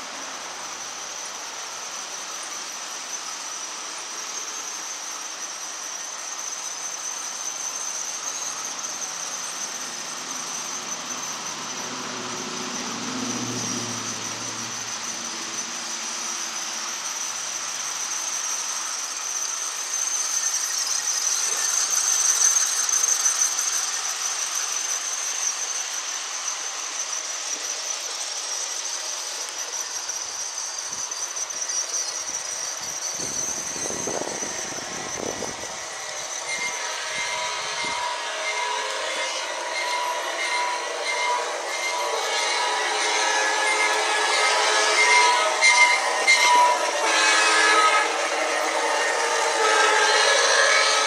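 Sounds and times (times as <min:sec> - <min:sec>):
high-pitched squeal: 0:00.0 - 0:51.0
model train rolling on track: 0:00.0 - 0:51.0.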